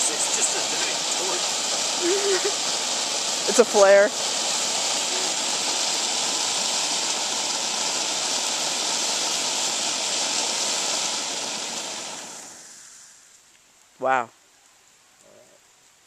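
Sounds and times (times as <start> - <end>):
ground firework hissing: 0.0 - 14.0.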